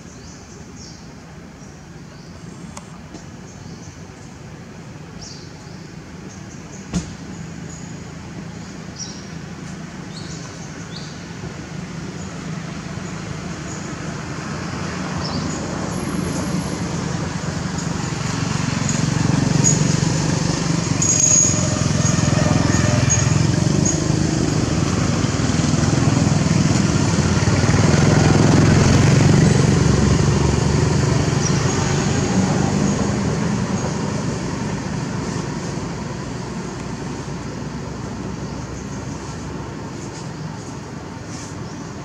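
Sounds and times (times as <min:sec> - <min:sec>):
passing motor vehicle rumble: 0:02.2 - 0:42.0.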